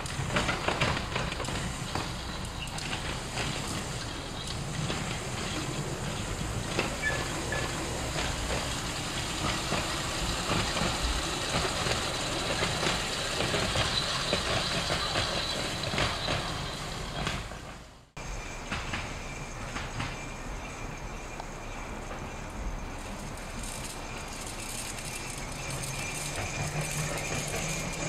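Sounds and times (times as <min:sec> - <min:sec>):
streetcar rumbling along track: 0:00.0 - 0:28.0
wheel clicks over rails: 0:00.0 - 0:28.0.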